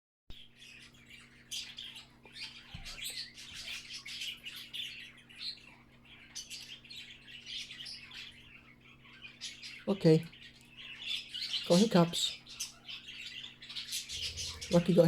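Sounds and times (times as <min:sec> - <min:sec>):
bird chirping: 0:00.3 - 0:15.0
low electrical hum: 0:00.4 - 0:15.0.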